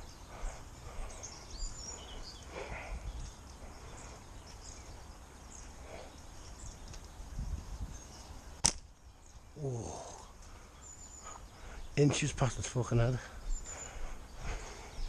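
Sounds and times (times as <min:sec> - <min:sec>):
low wind rumble and rustling: 0:00.0 - 0:15.0.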